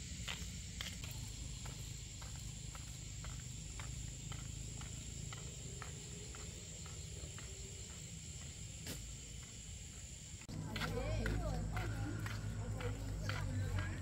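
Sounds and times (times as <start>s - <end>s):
footsteps in sandals on dirt: 0.0s - 14.0s
high insect drone: 0.0s - 14.0s.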